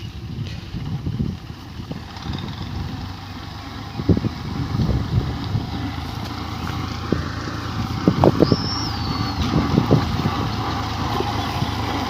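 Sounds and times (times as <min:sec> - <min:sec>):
wind on microphone: 0:00.0 - 0:03.2, 0:03.8 - 0:12.0
harvester engine running: 0:00.0 - 0:12.0.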